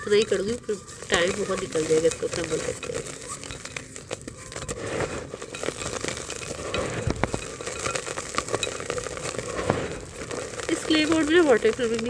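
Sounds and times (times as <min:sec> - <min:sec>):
dry clay crumbling into a pot: 0:00.0 - 0:12.0
grit pattering down: 0:00.0 - 0:12.0.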